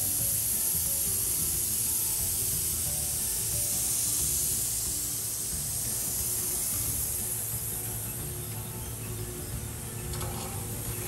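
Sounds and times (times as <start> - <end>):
low mechanical hum: 0.0 - 11.0
machine hiss: 0.0 - 11.0.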